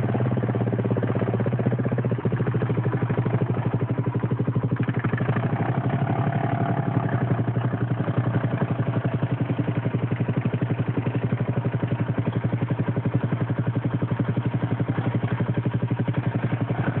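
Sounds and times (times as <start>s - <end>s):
atv engine running steadily: 0.0s - 17.0s.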